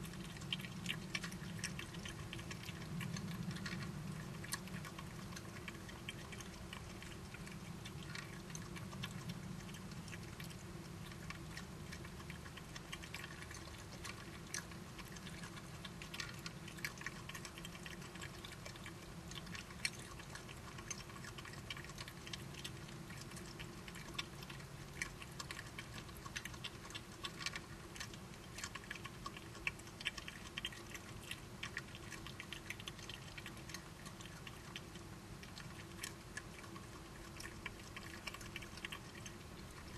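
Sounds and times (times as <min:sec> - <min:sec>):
badgers crunching food: 0:00.0 - 0:39.9
faint steady hum: 0:00.0 - 0:39.9.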